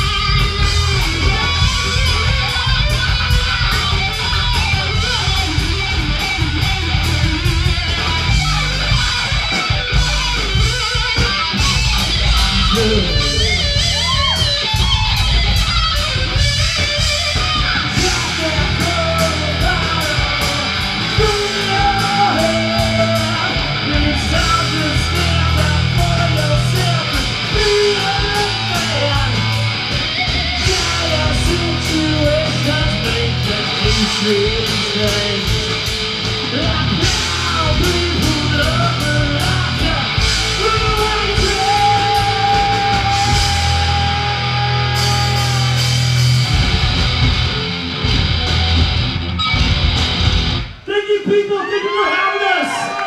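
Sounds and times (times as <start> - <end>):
heavy rock band playing live: 0.0 - 53.0.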